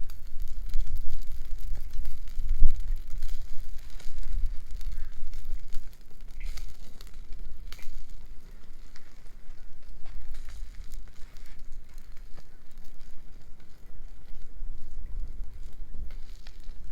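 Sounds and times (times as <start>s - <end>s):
uneven low rumble: 0.0s - 16.9s
wood bonfire crackling: 0.0s - 16.9s.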